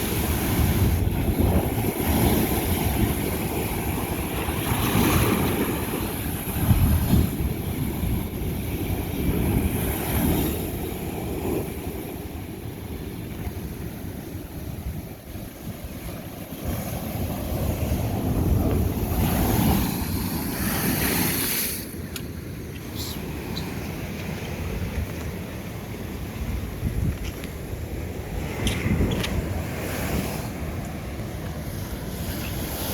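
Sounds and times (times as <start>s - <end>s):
wind buffeting microphone: 0.0s - 22.2s, 23.0s - 32.9s
ocean waves breaking on rock: 0.0s - 32.9s.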